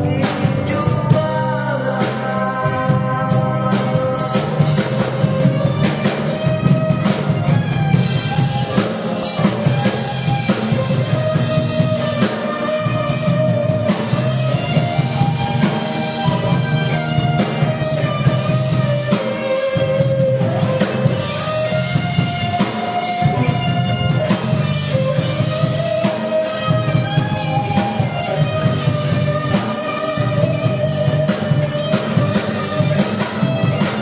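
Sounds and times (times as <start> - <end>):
bass guitar: 0.0 - 34.0
drum kit: 0.0 - 34.0
electric guitar melody: 0.0 - 34.0.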